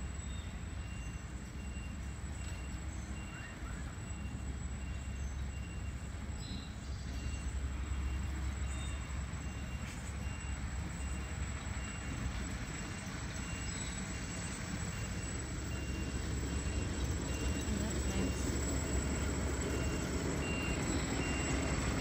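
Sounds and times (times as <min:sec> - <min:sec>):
garbage truck engine rumbling: 0:00.0 - 0:22.0.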